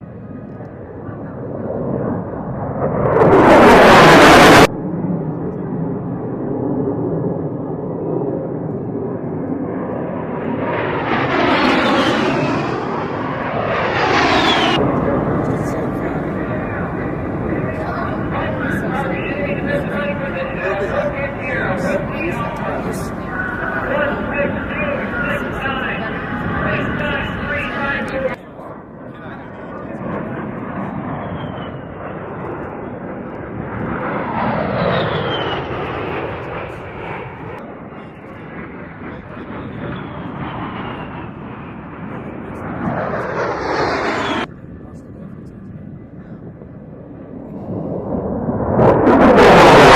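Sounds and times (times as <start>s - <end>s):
aircraft flying low past: 0.0s - 49.9s.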